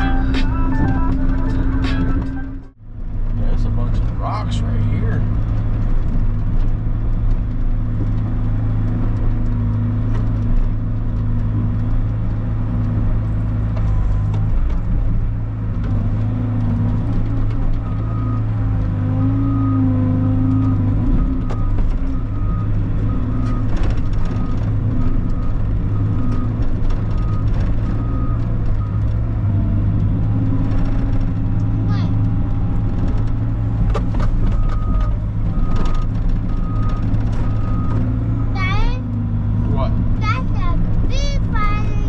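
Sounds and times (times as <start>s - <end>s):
diesel engine running under load: 0.0s - 42.0s.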